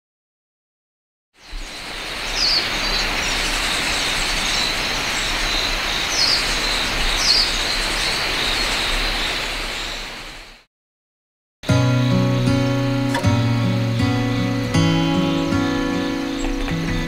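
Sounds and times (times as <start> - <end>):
birds chirping: 1.4 - 10.6, 12.0 - 17.0
steady noise hiss: 1.4 - 10.7, 11.7 - 17.0.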